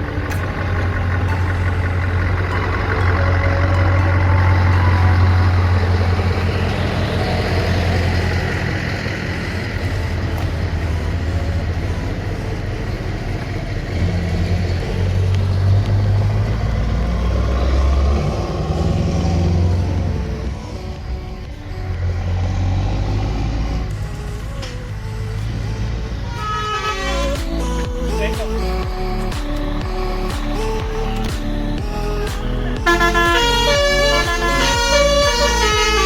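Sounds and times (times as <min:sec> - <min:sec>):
truck diesel engines droning: 0:00.0 - 0:36.0.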